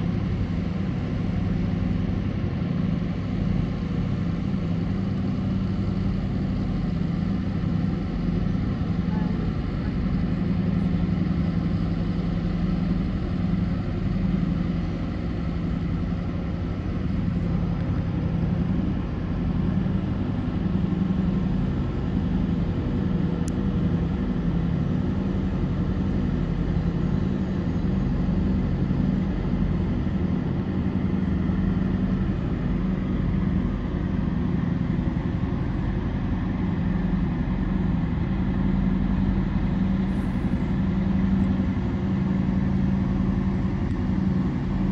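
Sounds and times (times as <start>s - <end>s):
diesel engines droning: 6.0s - 44.9s.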